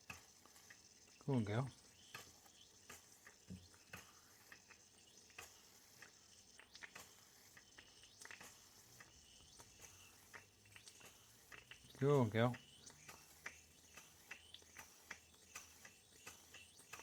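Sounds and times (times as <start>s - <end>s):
steam hissing: 0.0s - 17.0s
toy steam engine clicking: 0.0s - 17.0s.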